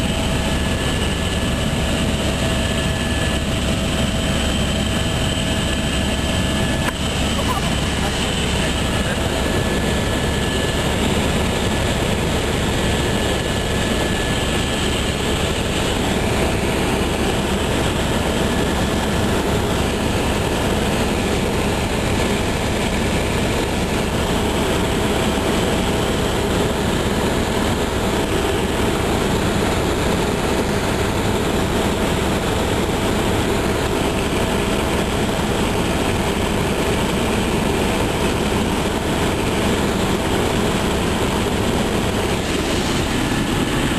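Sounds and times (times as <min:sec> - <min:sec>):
helicopter rotor and engine drone: 0:00.0 - 0:43.9.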